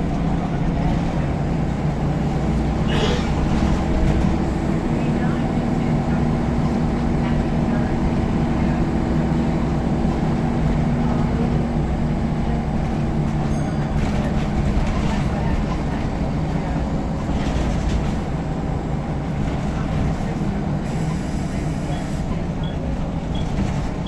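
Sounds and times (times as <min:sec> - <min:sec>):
bus diesel engine droning: 0:00.0 - 0:24.0
low rumble of the ride: 0:00.0 - 0:24.0.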